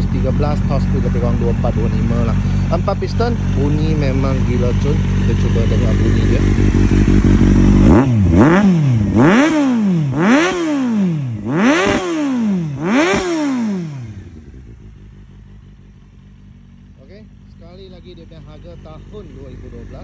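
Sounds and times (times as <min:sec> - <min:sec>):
engine idling: 0:00.0 - 0:20.0
motorcycle engine revving: 0:00.0 - 0:20.0.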